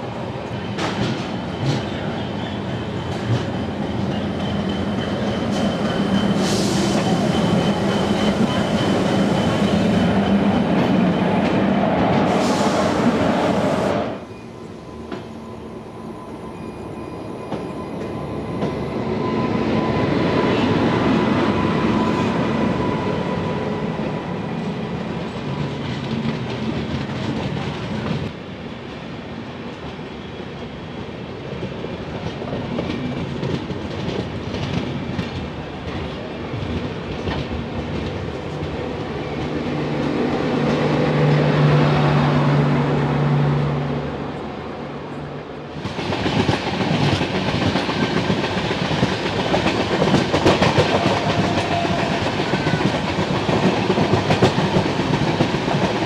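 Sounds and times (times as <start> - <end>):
train rumble: 0.0 - 56.0
trains passing close by: 0.0 - 56.0.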